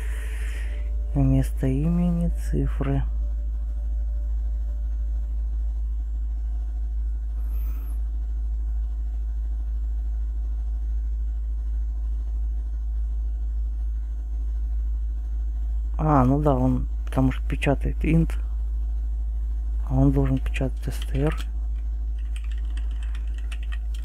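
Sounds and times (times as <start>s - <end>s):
low hum and rumble: 0.0s - 24.0s.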